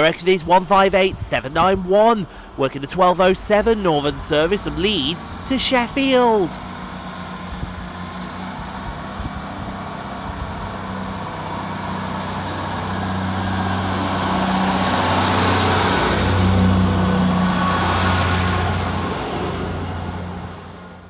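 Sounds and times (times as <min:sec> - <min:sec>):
train wheels on rails: 0:00.0 - 0:20.7
diesel train engine drone: 0:00.0 - 0:21.0.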